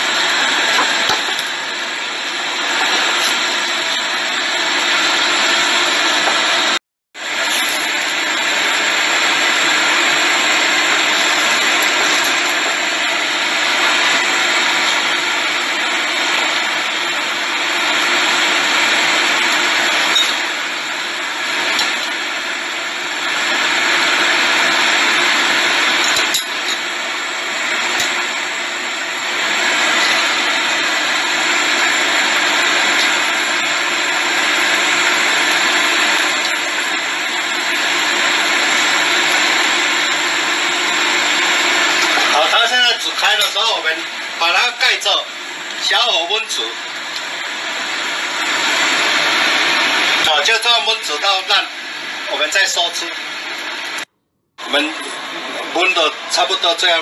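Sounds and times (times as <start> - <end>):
blower roar with low hum: 0.0 - 57.0.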